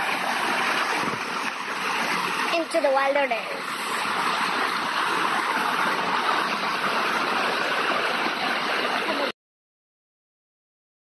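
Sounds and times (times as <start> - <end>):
stream splashing over rocks: 0.0 - 9.3.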